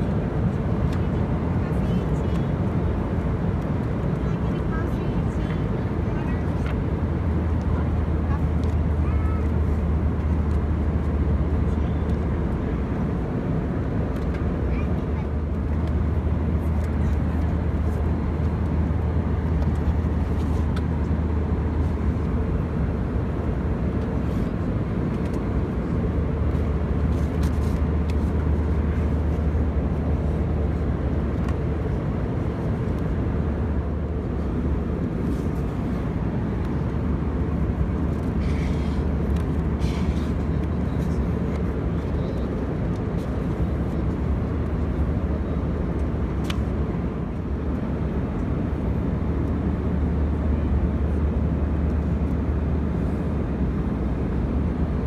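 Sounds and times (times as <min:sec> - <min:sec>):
airliner cabin engine drone: 0:00.0 - 0:55.0
constant low hum: 0:00.0 - 0:55.0.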